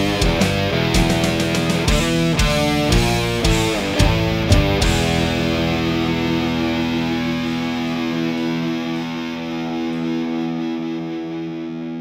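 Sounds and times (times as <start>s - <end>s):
distorted electric guitar chord: 0.0s - 12.0s.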